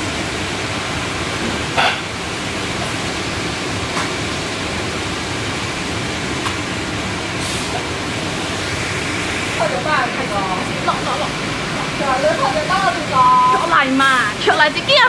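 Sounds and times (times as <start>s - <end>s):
steady mechanical noise: 0.0s - 15.0s.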